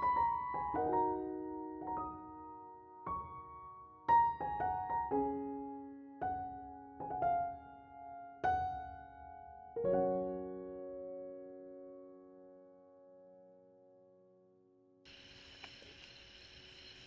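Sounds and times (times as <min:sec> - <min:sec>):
slow solo piano music: 0:00.0 - 0:14.6.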